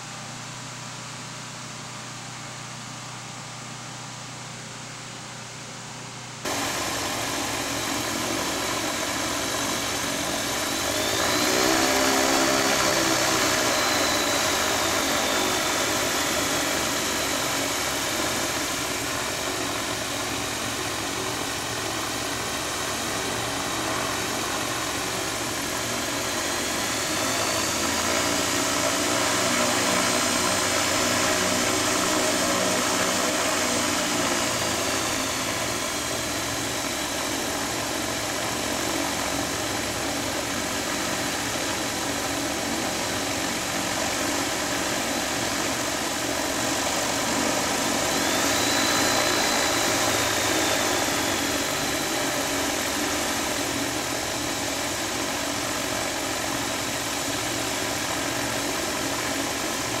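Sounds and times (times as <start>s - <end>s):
high engine whine: 0.0s - 60.0s
propeller engines idling: 0.0s - 60.0s.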